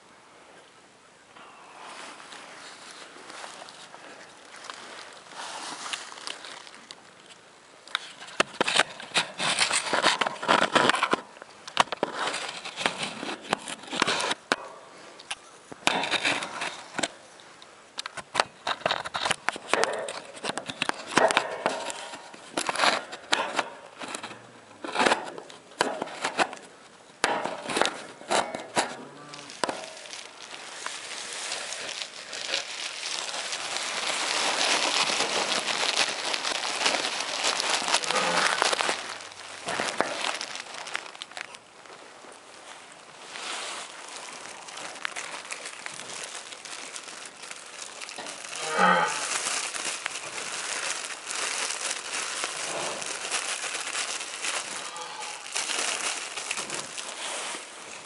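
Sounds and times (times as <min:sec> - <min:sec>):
straw rustling and crackling: 0:01.4 - 0:58.0.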